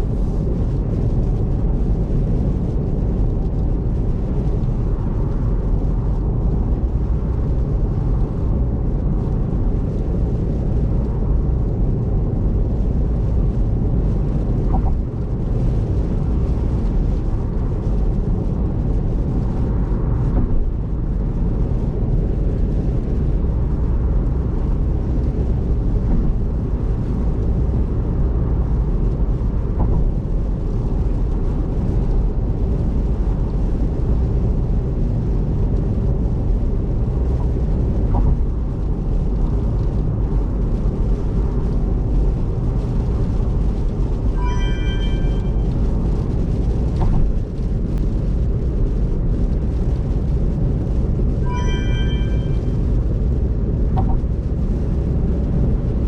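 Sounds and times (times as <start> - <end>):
tyre noise on wet road: 0.0 - 56.0.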